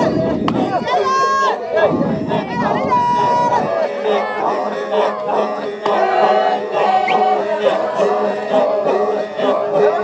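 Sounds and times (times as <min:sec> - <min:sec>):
men chanting: 0:00.0 - 0:10.0
low vocal drone: 0:01.6 - 0:10.0.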